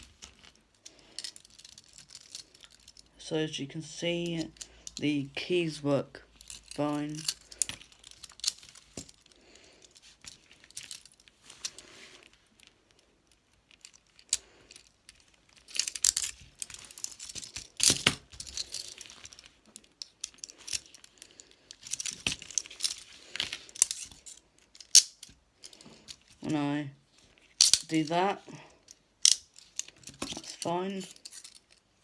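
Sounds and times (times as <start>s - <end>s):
metal handcuffs clicking and rattling: 0.0s - 3.2s, 4.1s - 5.5s, 6.2s - 26.6s, 27.4s - 32.0s.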